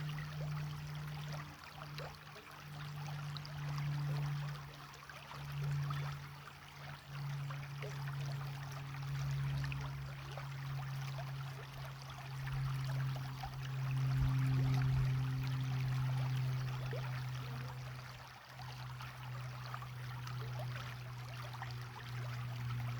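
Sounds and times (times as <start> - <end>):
steady low hum: 0.0 - 22.9
stream trickling: 0.0 - 22.9.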